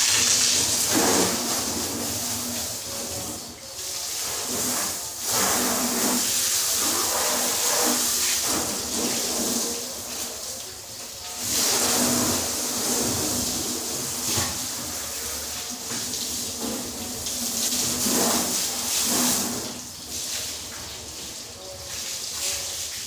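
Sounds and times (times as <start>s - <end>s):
hose water spraying on a car: 0.0s - 23.0s.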